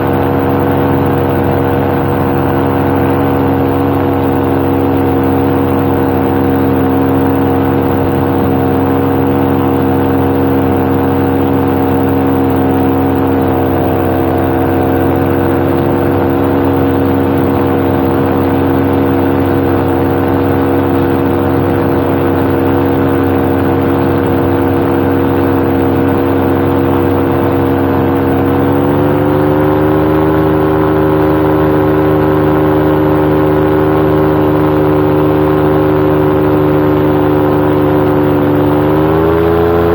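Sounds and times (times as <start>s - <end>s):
two-stroke engine and propeller: 0.0s - 39.9s
wind on microphone: 0.0s - 39.9s.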